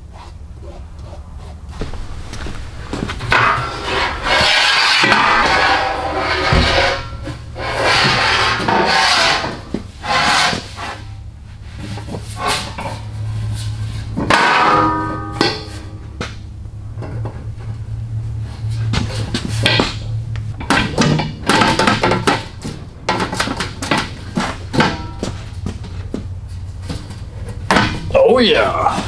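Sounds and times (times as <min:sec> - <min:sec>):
metal scraping and rubbing: 0:00.6 - 0:28.1.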